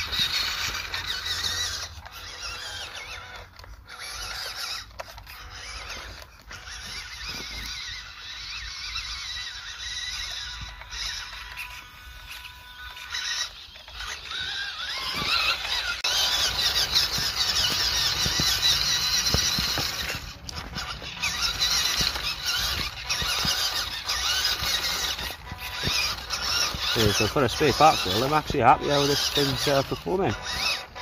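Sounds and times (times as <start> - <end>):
electric motor whining: 0.0 - 31.0.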